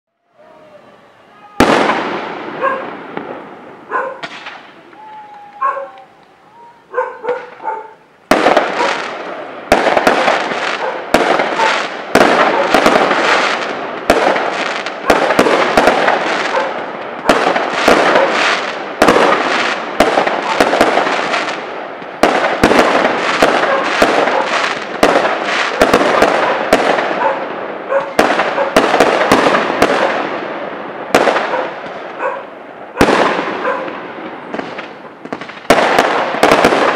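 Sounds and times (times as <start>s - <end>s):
fireworks bangs and crackles: 0.4s - 36.9s.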